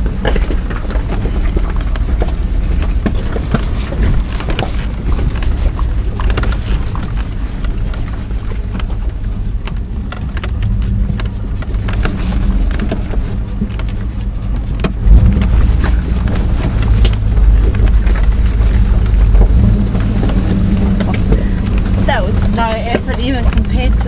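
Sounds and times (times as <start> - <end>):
truck engine running low: 0.0 - 24.0
tyres crunching over rock: 0.0 - 24.0.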